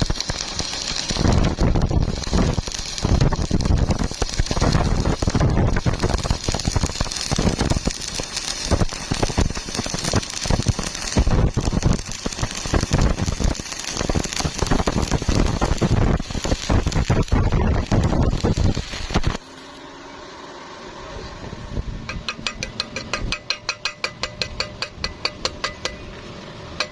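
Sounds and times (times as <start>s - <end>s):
welding arc crackling: 0.0s - 20.0s, 21.8s - 26.2s.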